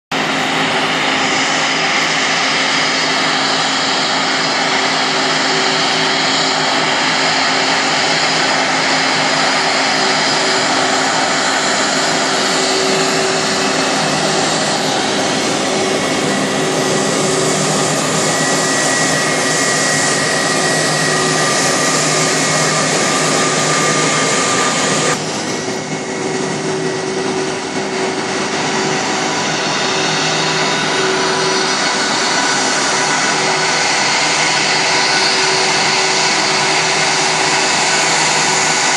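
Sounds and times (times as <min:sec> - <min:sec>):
jet engines whining: 0:00.1 - 0:38.9.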